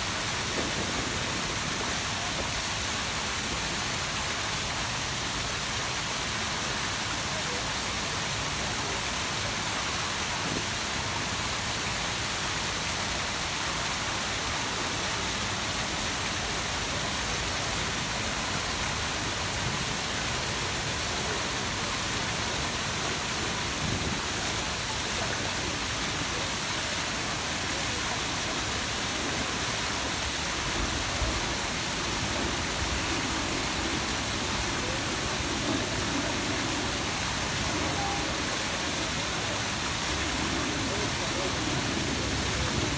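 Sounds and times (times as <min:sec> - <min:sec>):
fountains splashing into pool: 0:00.0 - 0:42.9.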